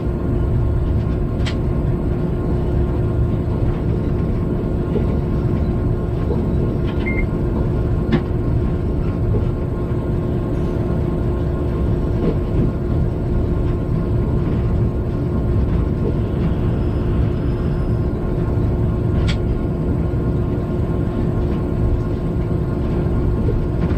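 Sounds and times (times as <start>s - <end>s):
constant hum: 0.0s - 23.9s
freight train rumbling: 0.0s - 23.9s.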